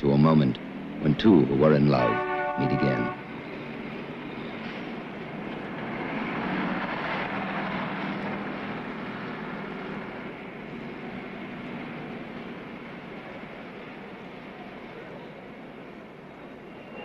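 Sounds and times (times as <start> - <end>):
street traffic hum: 0.0 - 17.0.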